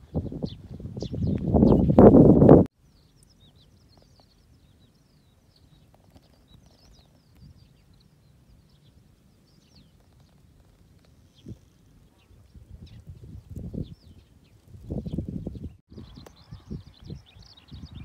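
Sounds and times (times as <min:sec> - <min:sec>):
birds chirping: 0:00.1 - 0:02.1, 0:02.8 - 0:18.0.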